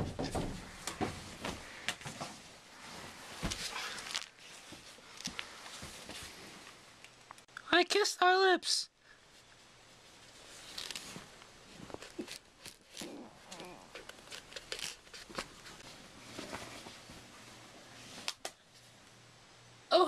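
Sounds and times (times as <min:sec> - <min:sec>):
clothing and bedding rustling: 0:00.0 - 0:07.0, 0:09.2 - 0:19.0.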